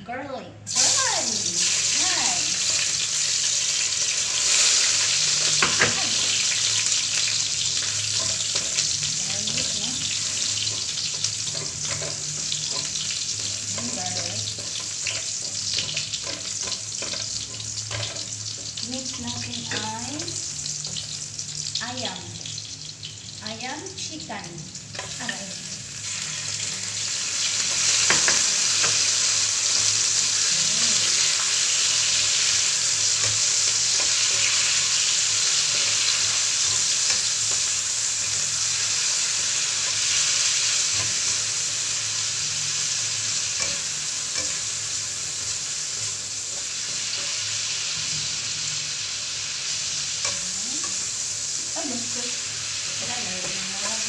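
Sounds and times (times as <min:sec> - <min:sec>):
meat sizzling in hot oil: 0:00.7 - 0:54.0
spatula scraping a wok: 0:02.6 - 0:21.2, 0:24.9 - 0:51.3.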